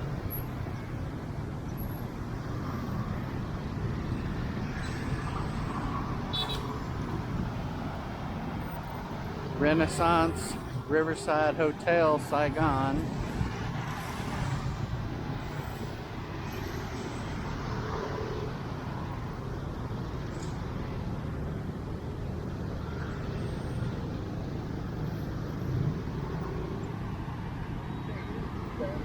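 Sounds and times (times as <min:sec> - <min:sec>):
city street traffic: 0:00.0 - 0:29.0.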